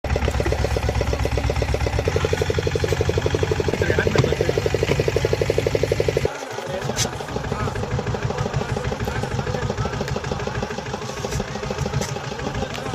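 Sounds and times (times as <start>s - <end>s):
boat engine pulsing: 0.0s - 12.9s.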